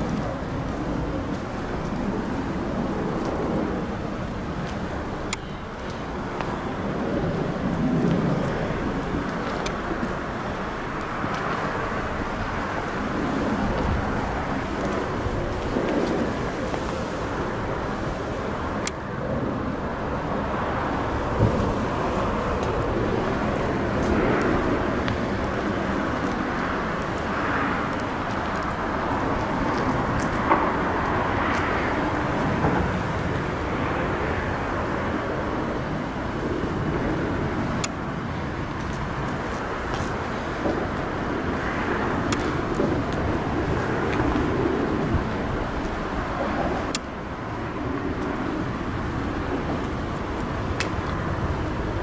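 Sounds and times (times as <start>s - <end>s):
road traffic: 0.0s - 52.0s.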